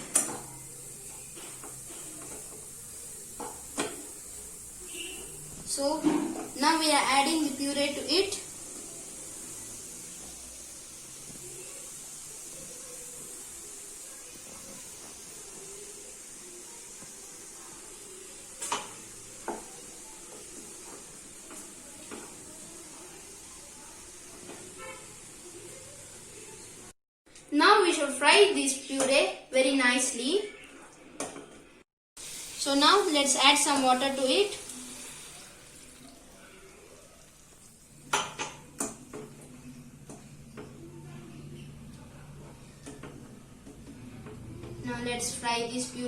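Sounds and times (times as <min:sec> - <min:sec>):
food sizzling in a pan: 0:00.0 - 0:27.0, 0:31.3 - 0:46.0.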